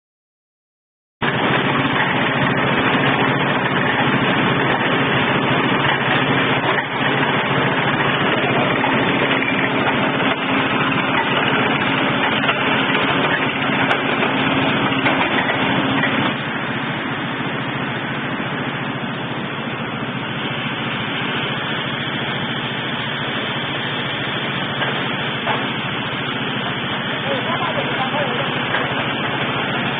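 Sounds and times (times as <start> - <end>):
dense mechanical noise: 1.2 - 29.9
drilling rig engine hum: 1.2 - 29.9.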